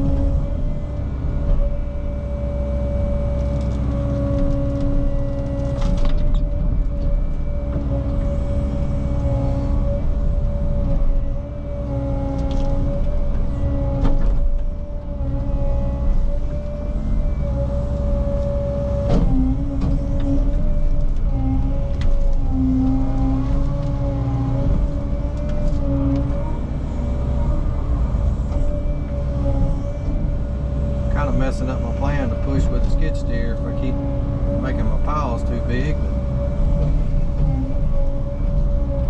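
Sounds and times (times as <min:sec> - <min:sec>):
excavator diesel engine under load: 0:00.0 - 0:39.0
hydraulic whine: 0:00.0 - 0:39.0.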